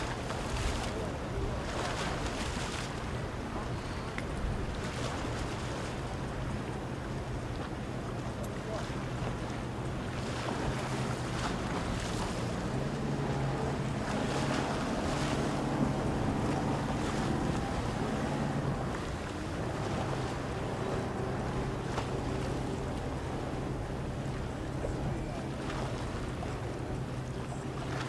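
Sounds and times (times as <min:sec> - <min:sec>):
motorboat engines droning: 0:00.0 - 0:28.0
rush of boat wake: 0:00.0 - 0:28.0.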